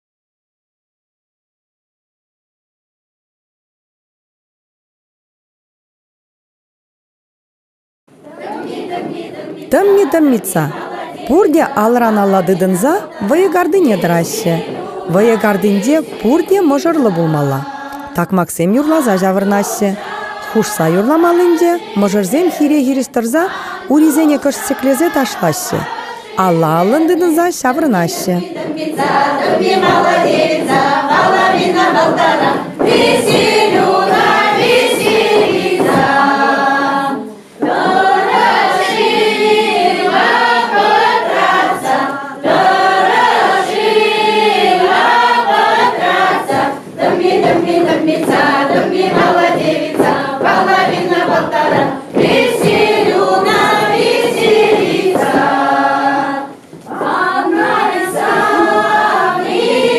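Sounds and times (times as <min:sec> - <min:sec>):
men and women singing together: 0:08.2 - 0:59.9.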